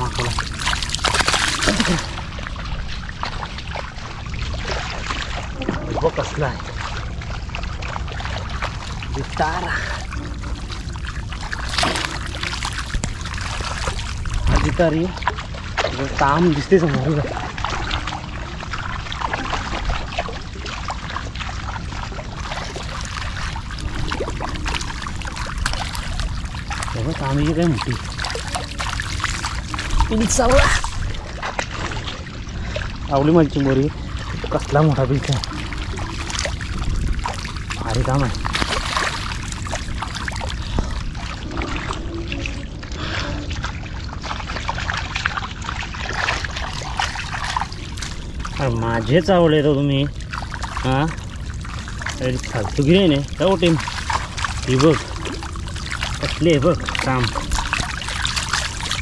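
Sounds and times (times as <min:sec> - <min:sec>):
fish thrashing in water: 0:00.0 - 0:59.0
wading through shallow water: 0:00.0 - 0:59.0.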